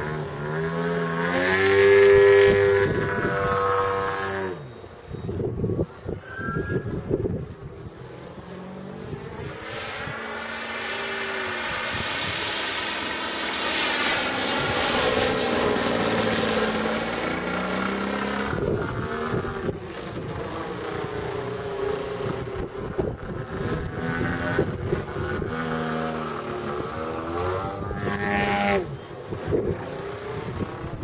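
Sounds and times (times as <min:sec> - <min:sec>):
model plane engine and propeller: 0:00.0 - 0:31.0.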